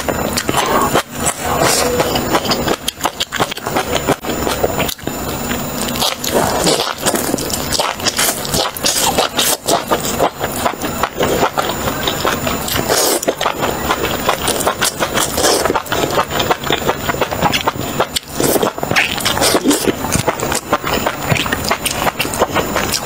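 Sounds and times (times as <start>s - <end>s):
wet chewing and slurping: 0.0s - 23.0s.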